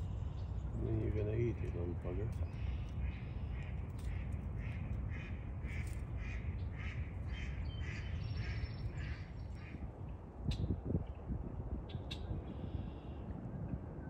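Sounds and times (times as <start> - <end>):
constant low rumble: 0.0 - 14.0.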